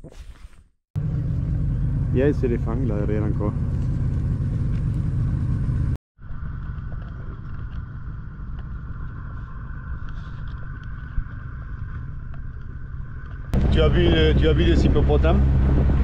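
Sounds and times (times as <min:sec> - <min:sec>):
outboard motor droning: 0:01.0 - 0:16.0.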